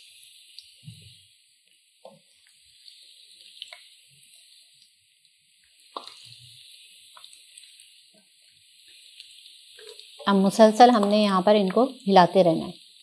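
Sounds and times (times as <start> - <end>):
deep-frying sizzle with small pops: 0.0 - 13.0.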